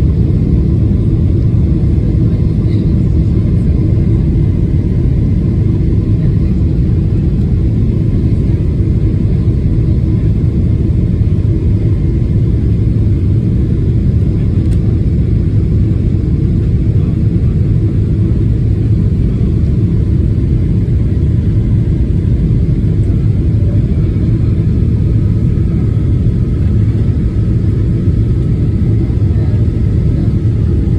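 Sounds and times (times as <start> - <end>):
jet engines rumbling in cabin: 0.0 - 30.9.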